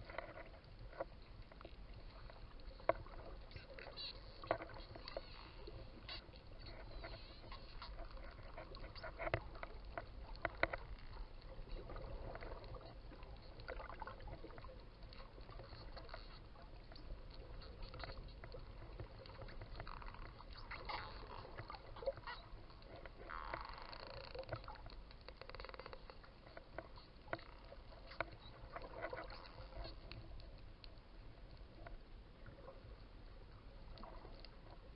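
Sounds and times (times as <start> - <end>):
low rumble of sea water: 0.0 - 34.9.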